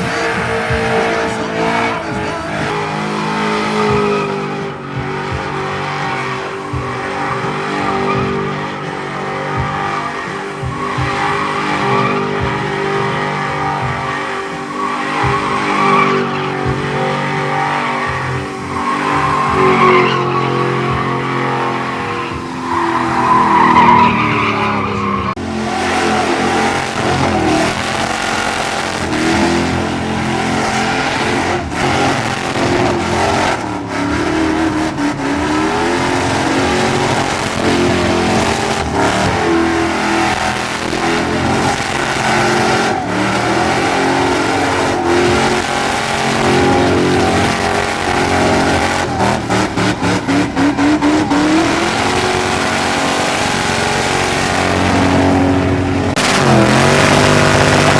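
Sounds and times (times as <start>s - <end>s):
truck engines revving: 0.0s - 57.9s
tyres squealing: 0.0s - 57.9s.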